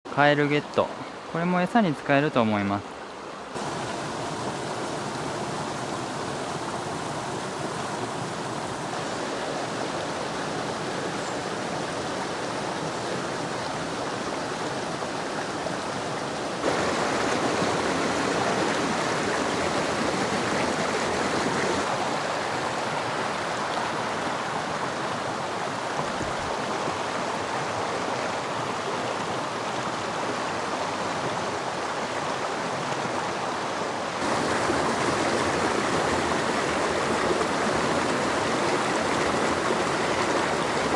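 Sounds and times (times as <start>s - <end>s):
water rushing over rocks: 0.1s - 40.9s.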